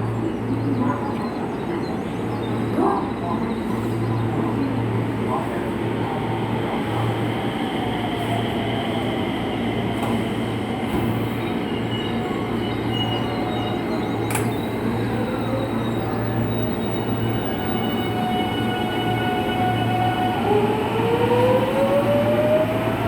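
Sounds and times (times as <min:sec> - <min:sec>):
train motor and running noise: 0:00.0 - 0:23.0
electric train inverter whine: 0:01.5 - 0:23.0.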